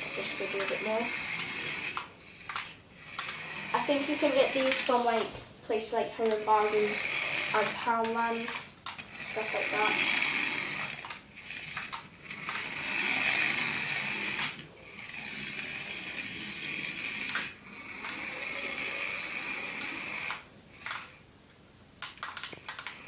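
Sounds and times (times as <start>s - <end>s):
toy car motor whirring: 0.0s - 5.3s, 6.2s - 21.2s, 22.1s - 23.0s.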